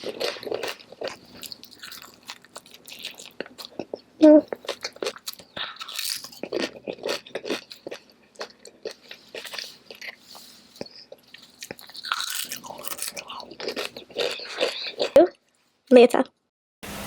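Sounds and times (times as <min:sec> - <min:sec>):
person chewing: 0:00.0 - 0:15.3.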